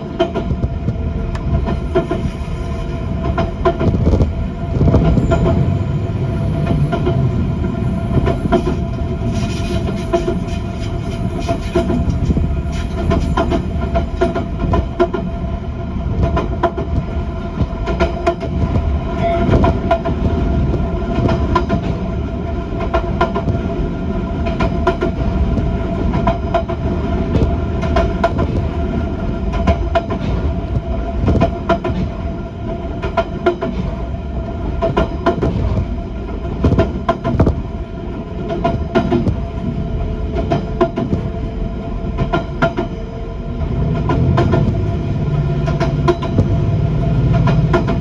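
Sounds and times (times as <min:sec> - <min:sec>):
train low rumble: 0:00.0 - 0:48.0.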